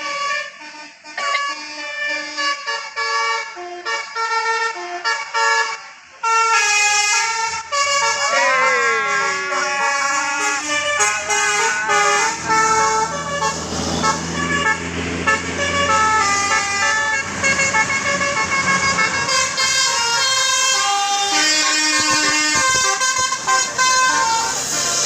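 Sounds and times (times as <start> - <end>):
multi-tone air horn melody: 0.0 - 25.0.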